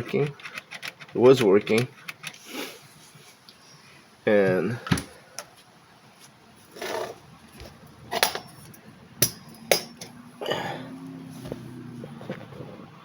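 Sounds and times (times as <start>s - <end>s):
faint low fridge hum: 1.1s - 13.0s.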